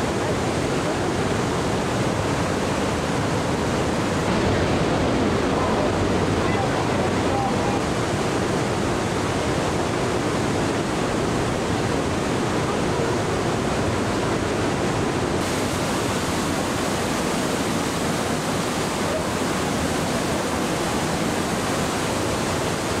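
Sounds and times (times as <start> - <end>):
waterfall rushing through gorge: 0.0 - 23.0.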